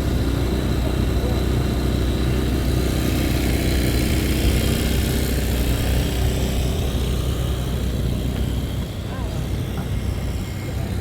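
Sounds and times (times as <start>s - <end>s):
street traffic: 0.0s - 11.0s
vehicle engine running: 0.0s - 11.0s.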